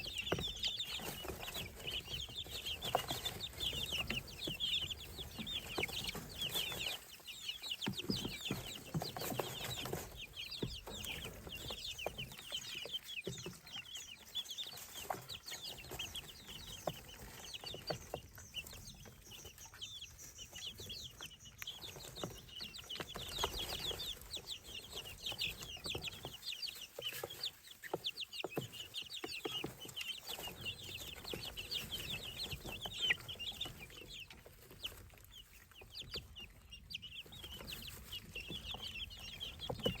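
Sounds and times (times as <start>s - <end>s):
baby poultry peeping: 0.0s - 40.0s.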